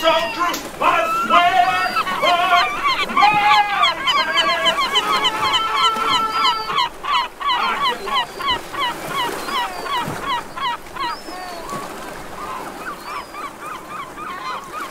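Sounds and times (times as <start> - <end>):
flock of birds honking: 0.0 - 14.9.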